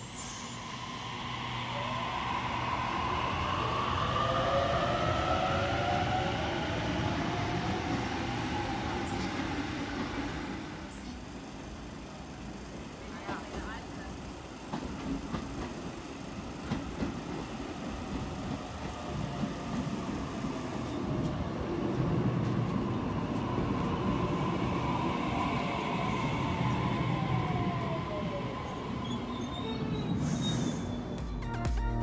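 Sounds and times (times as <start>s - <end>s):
train running noise: 0.0s - 31.3s.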